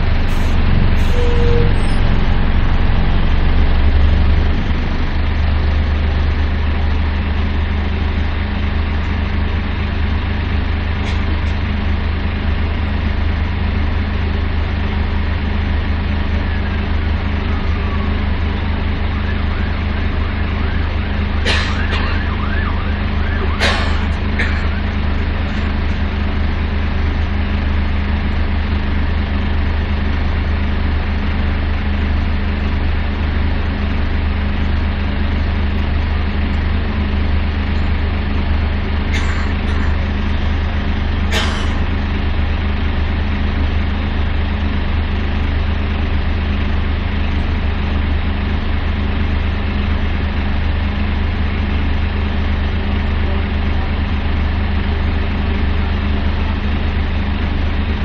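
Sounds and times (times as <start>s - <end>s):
diesel bus engine idling: 0.0s - 58.0s.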